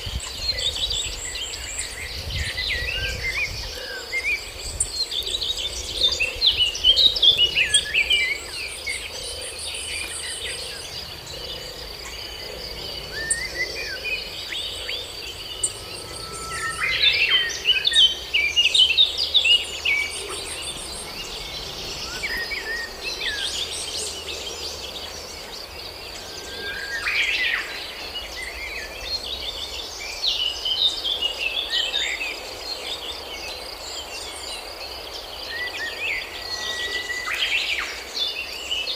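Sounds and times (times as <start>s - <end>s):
birds chirping: 0.0s - 31.7s
insect drone: 0.0s - 38.9s.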